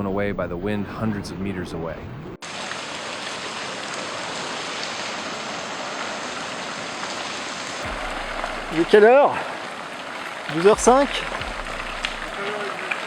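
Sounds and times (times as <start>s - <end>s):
heavy rain pouring: 2.4s - 13.0s.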